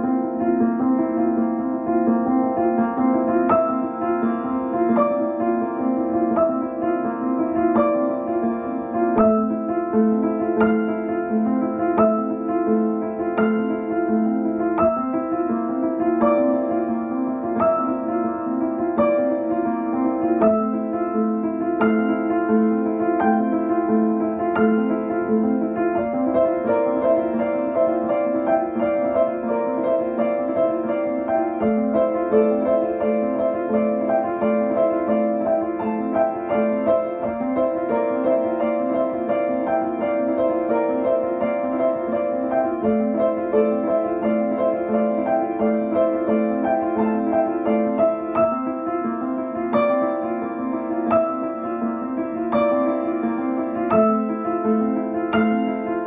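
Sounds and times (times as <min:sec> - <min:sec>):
soft piano music: 0:00.0 - 0:56.0.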